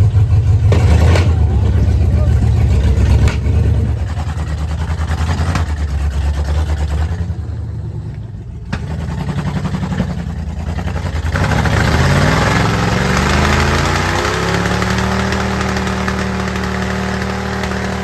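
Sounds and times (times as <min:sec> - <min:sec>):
engine running and revving: 0:00.0 - 0:18.0.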